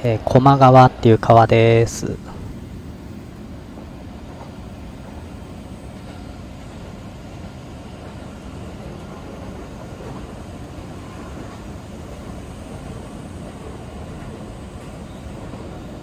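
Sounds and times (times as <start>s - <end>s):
electric train low rumble: 0.0s - 16.0s.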